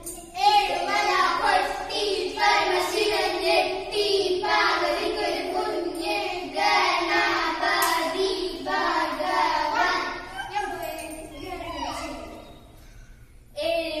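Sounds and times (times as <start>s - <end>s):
girls chanting a rhyme: 0.0s - 12.5s.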